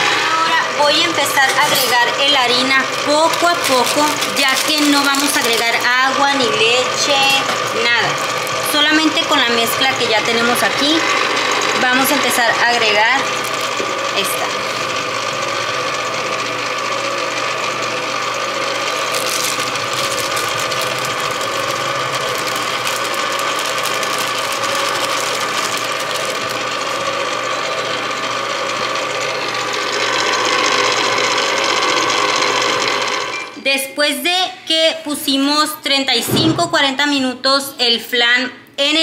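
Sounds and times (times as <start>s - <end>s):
stand mixer motor running: 0.0s - 33.6s.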